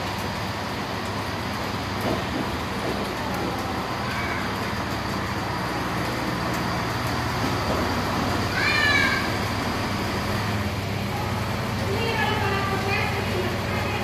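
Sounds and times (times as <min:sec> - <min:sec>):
diesel engine running: 0:00.0 - 0:14.0
train rolling on rails: 0:00.0 - 0:14.0.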